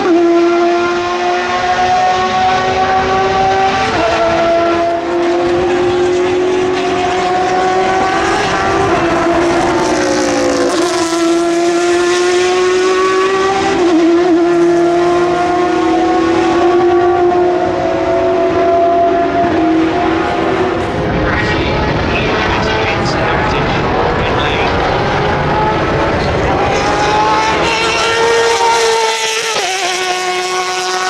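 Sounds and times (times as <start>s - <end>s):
race car engines revving: 0.0s - 31.0s.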